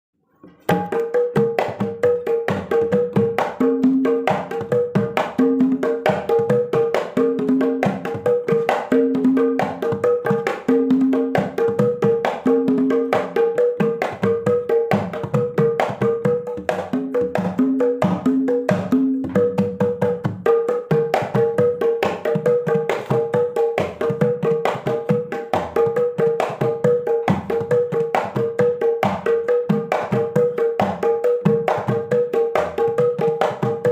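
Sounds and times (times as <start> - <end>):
hand drum playing fast rhythm: 0.7 - 33.9.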